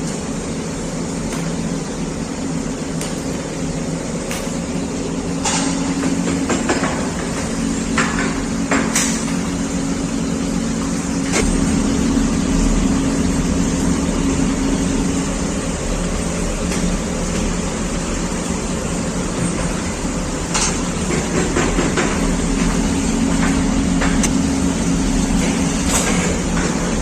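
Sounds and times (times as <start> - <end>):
furnace mechanical hum: 0.0 - 27.0.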